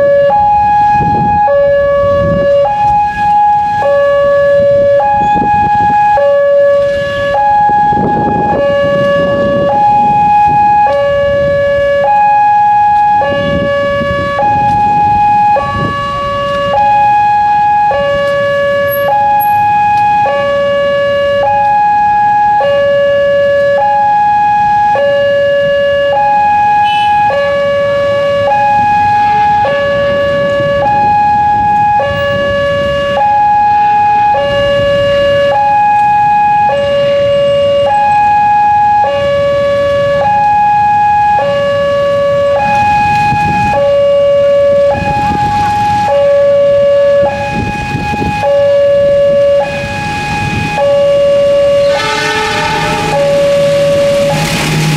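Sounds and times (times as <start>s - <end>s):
level crossing two-tone siren: 0.0s - 54.6s.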